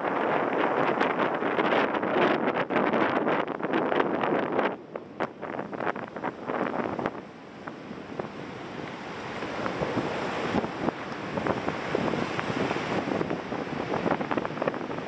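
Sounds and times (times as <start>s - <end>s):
sea surf washing ashore: 0.0s - 15.0s
wind buffeting microphone: 0.0s - 15.0s.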